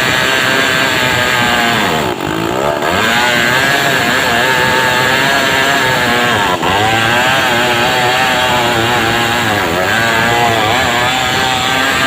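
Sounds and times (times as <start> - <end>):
chainsaw cutting log: 0.0 - 12.0.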